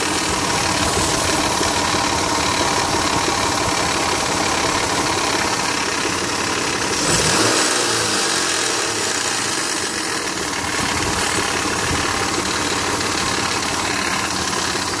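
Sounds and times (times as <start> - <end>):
engine idling with clatter: 0.0 - 15.0.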